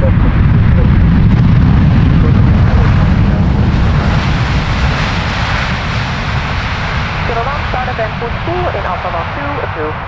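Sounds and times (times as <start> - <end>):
jet engine rumbling: 0.0 - 10.0.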